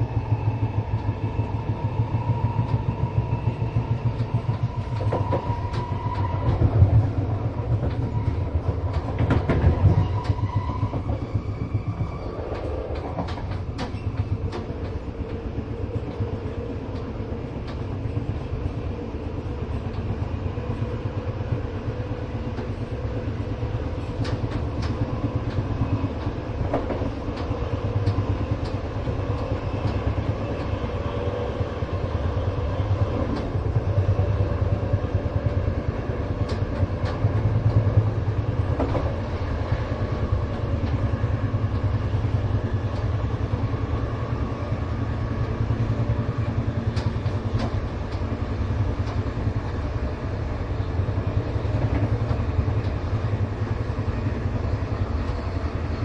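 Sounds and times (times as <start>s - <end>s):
train running gear rumble: 0.0s - 56.0s.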